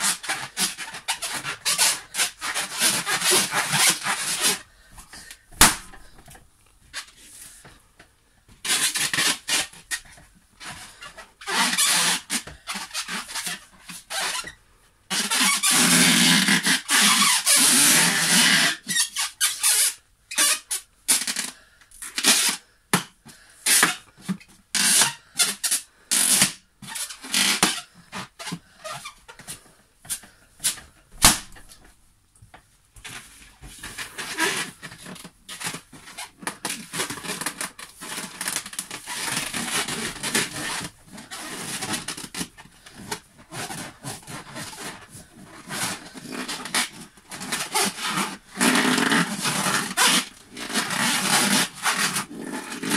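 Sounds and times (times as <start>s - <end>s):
balloon squeaking and rubbing: 0.0s - 7.6s, 8.5s - 32.0s, 33.0s - 52.9s.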